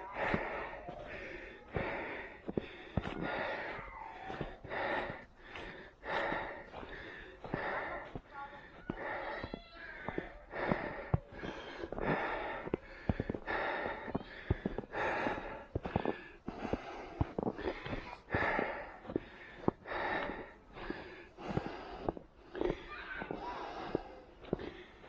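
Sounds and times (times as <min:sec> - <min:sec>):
runner breathing hard: 0:00.0 - 0:25.0.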